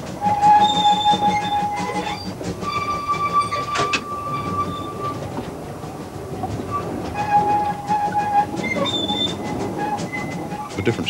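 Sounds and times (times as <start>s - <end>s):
steam train wheels rattling on track: 0.0s - 11.0s
high-pitched wheel squeal: 0.2s - 5.2s, 6.7s - 11.0s.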